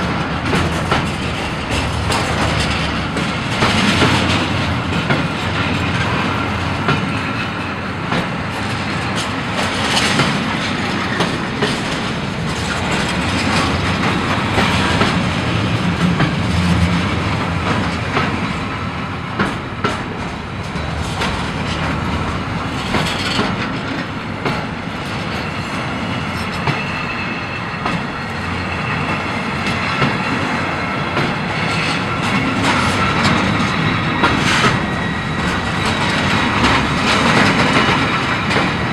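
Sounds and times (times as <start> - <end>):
freight train rumble: 0.0 - 38.9
train wheels clattering over rail joints: 0.0 - 38.9.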